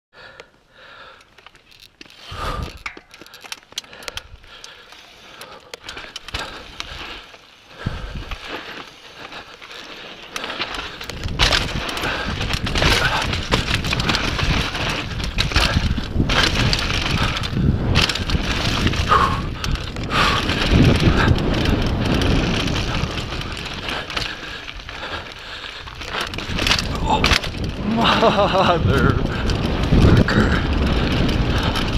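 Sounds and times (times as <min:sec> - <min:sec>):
bike tyres crunching on dirt: 0:00.2 - 0:31.9
bike rattling and knocking: 0:01.3 - 0:31.9.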